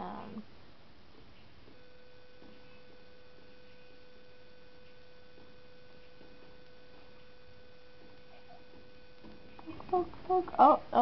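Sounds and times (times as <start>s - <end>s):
high-pitched hum: 0.0s - 11.0s.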